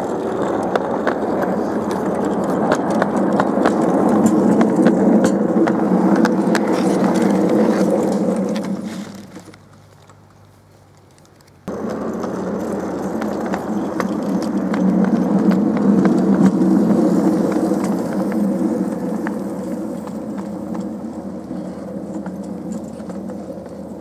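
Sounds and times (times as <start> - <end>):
miniature train rolling past: 0.0 - 24.0
wheels clicking over rail joints: 0.0 - 24.0.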